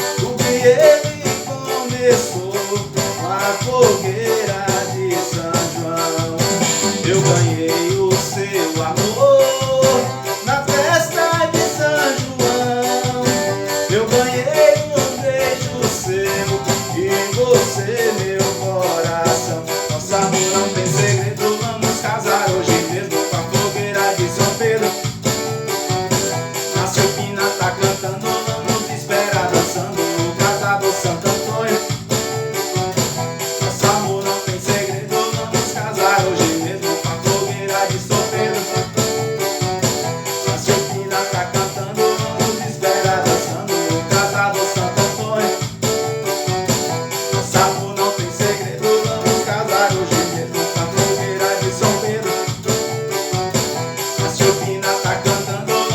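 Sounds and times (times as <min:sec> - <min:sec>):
keyboard melody: 0:00.0 - 0:55.9
keyboard rhythm accompaniment: 0:00.0 - 0:55.9
shaker-like percussion beat: 0:00.0 - 0:55.9.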